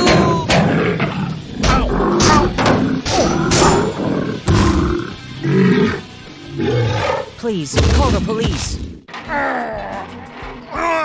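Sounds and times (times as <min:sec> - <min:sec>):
cartoon gorilla roars and growls: 0:00.0 - 0:08.0, 0:09.3 - 0:11.0
background music: 0:00.0 - 0:11.0.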